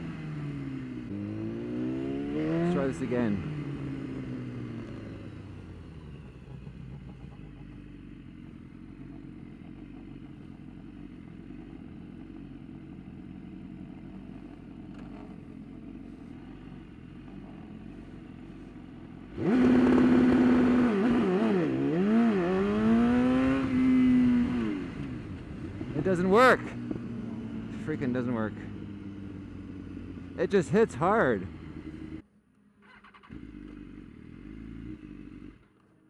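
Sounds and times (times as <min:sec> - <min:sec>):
motorcycle engine revving: 0:00.0 - 0:32.2, 0:32.8 - 0:36.0.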